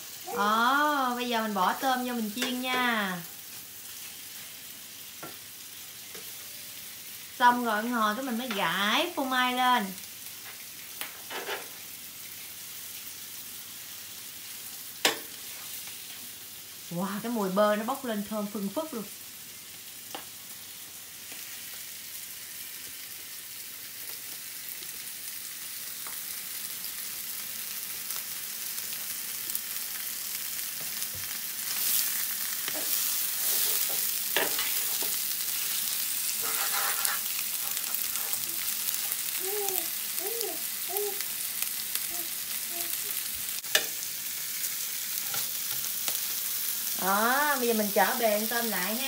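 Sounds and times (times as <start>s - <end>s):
shrimp sizzling in a pan: 0.0s - 49.0s.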